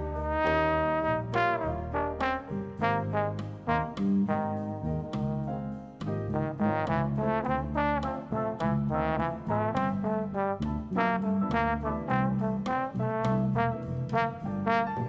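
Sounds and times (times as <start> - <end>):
electric bass: 0.0 - 15.0
piano: 0.0 - 15.0
trombone playing jazz melody: 0.0 - 15.0.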